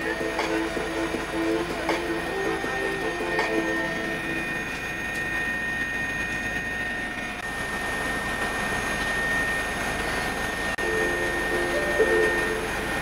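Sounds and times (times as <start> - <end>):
aircraft cabin engine noise: 0.0 - 13.0
high whine: 0.0 - 13.0.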